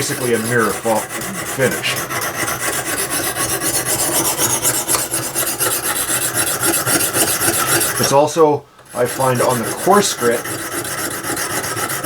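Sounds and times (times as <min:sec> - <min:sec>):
honing stone scraping steel blade: 0:00.0 - 0:08.3, 0:08.9 - 0:12.0.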